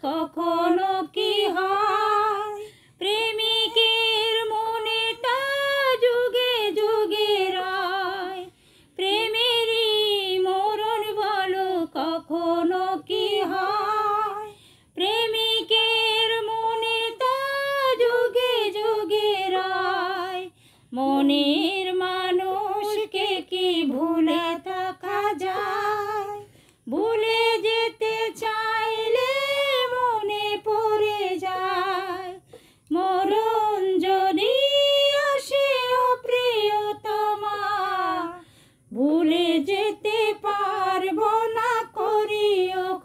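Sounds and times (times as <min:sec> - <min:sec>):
woman singing unaccompanied: 0:00.0 - 0:43.0.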